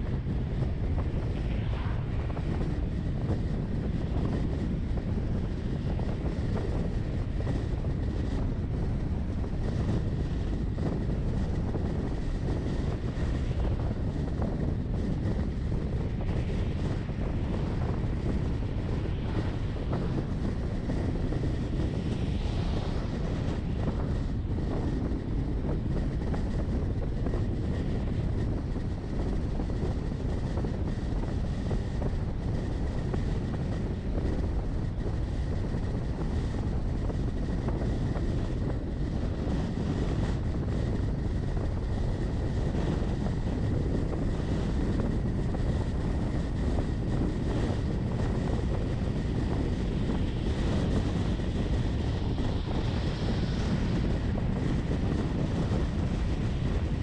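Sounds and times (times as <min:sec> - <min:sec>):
faint high whine: 0:00.0 - 0:54.8.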